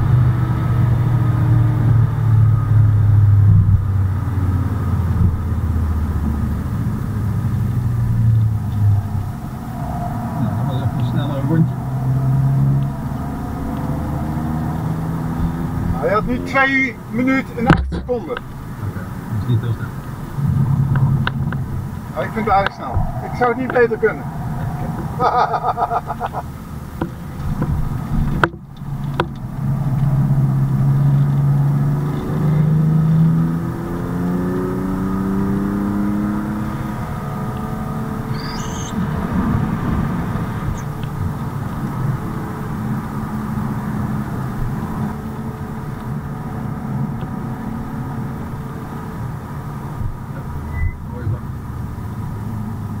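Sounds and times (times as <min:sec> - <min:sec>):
car engine accelerating hard: 0:00.0 - 0:53.0
tyre and road noise: 0:00.0 - 0:53.0.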